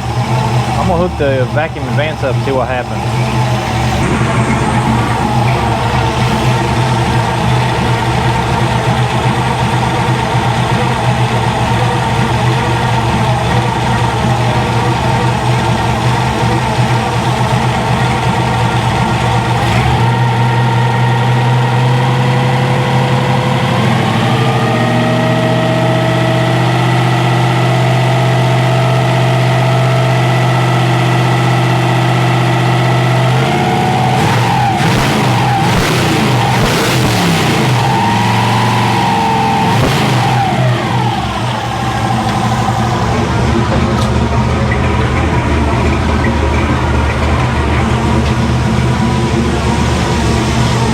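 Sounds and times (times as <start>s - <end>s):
engine running at fast idle: 0.0s - 50.9s.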